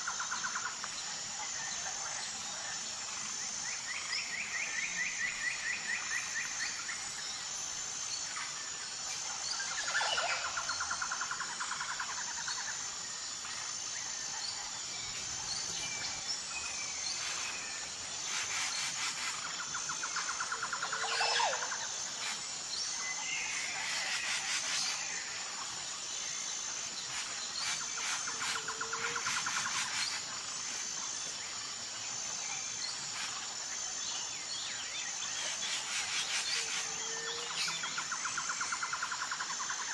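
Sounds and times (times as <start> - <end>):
high-pitched insect trill: 0.0 - 39.9.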